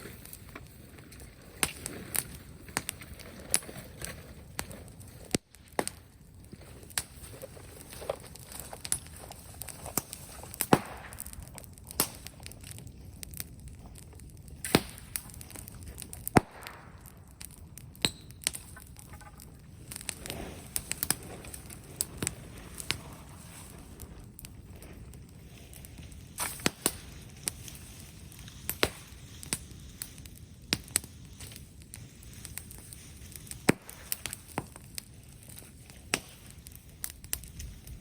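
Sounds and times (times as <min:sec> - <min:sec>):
bonfire crackling and popping: 0:00.0 - 0:38.0.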